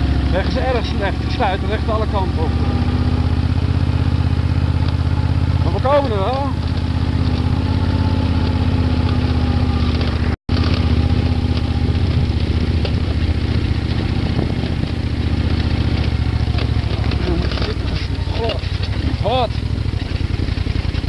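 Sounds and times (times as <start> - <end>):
knocks and rattles: 0.0 - 21.0
motorcycle engine working hard: 0.0 - 21.0.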